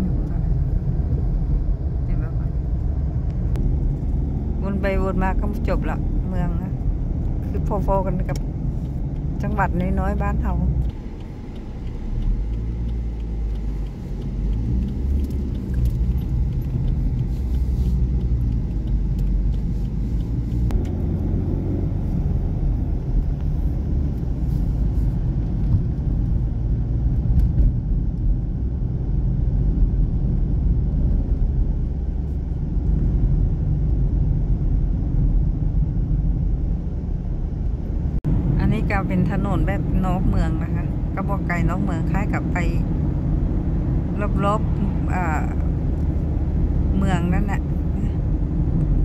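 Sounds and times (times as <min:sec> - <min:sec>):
car interior road drone: 0:00.0 - 0:49.0.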